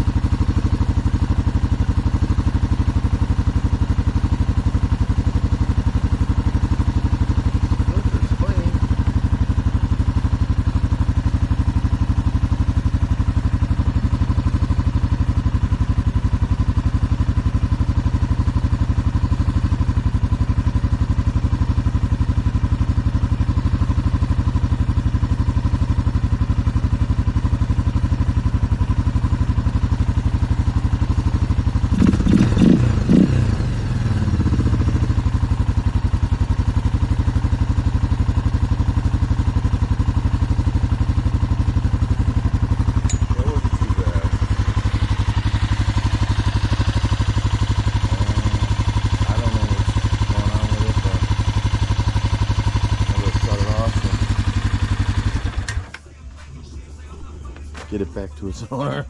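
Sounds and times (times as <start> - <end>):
atv engine idling and revving: 0.0 - 59.0.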